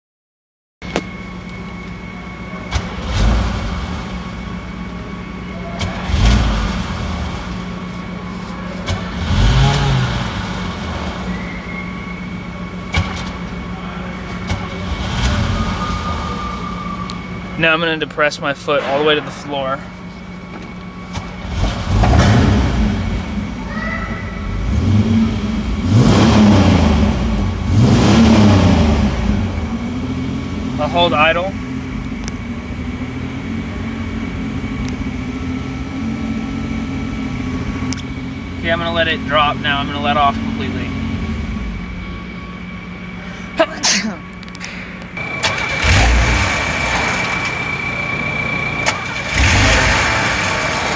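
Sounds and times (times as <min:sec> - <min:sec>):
car engine idling roughly: 0:01.1 - 0:23.8, 0:29.3 - 0:50.9.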